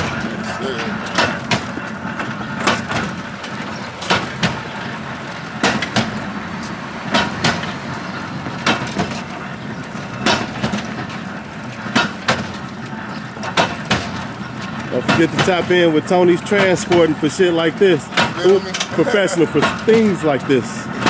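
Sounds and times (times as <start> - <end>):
rhythmic knocks: 0.0 - 21.0.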